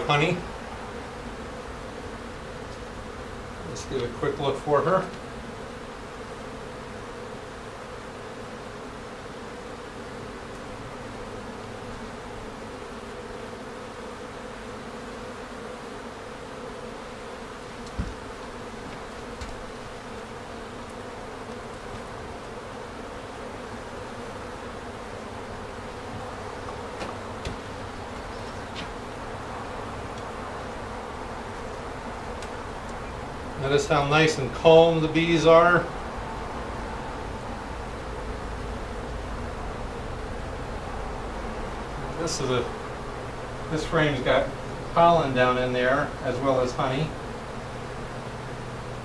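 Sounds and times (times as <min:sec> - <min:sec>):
bees humming: 0:00.0 - 0:49.0.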